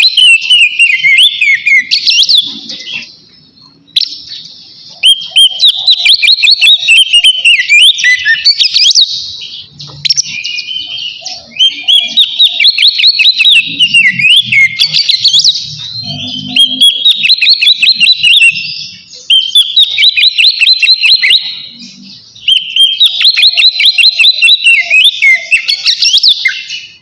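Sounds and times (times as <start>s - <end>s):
bird singing whistled notes: 0.0s - 27.0s.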